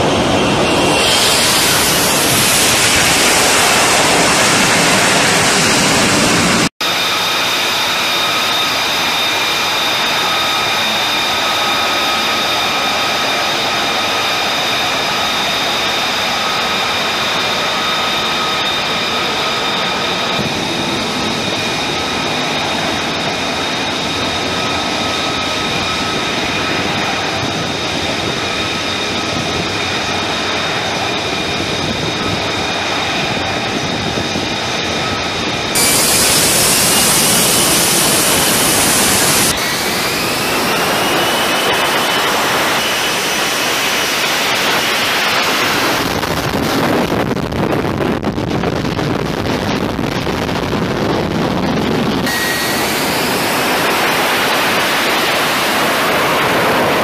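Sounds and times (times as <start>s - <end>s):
jet engine whine and roar: 0.0s - 57.0s.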